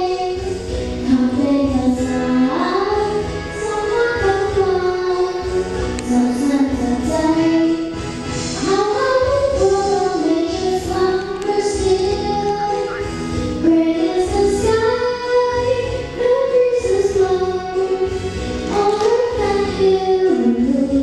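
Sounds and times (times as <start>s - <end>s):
child singing: 0.0s - 8.0s, 8.6s - 21.0s
backing dance music: 0.0s - 21.0s.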